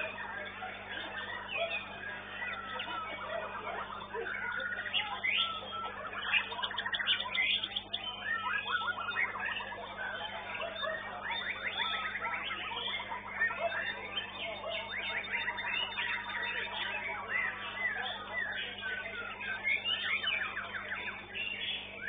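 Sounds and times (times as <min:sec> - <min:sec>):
songbirds singing trills: 0:00.0 - 0:22.0.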